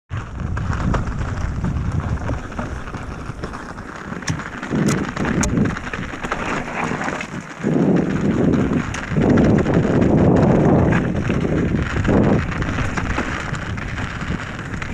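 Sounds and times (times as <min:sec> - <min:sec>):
bike rattling on rough trail: 0:00.1 - 0:14.9
wind buffeting microphone: 0:00.1 - 0:14.9.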